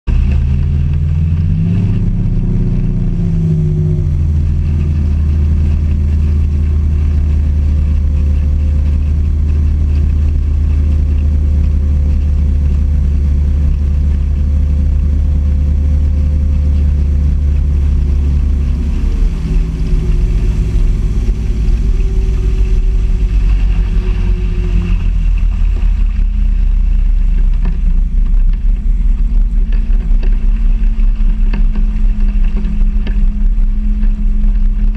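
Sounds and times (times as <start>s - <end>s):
outboard boat engine: 0.1s - 34.9s
water rushing: 0.1s - 34.9s.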